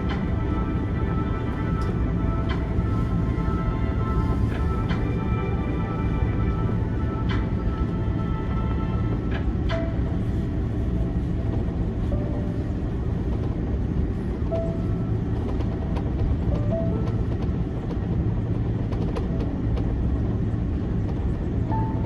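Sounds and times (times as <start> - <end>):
faint music: 0.0 - 22.0
low rumble in aircraft cabin: 0.0 - 22.0.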